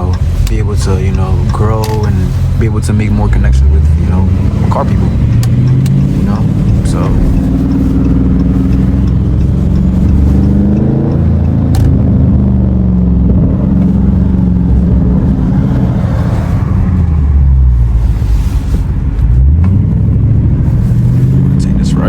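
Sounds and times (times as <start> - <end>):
car exhaust droning: 0.0 - 22.0.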